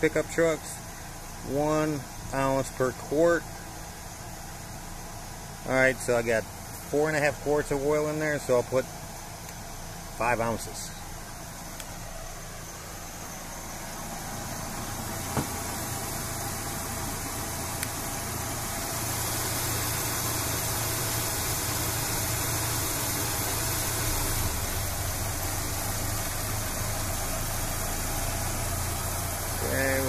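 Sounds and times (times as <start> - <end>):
pickup engine idling: 0.0 - 30.0.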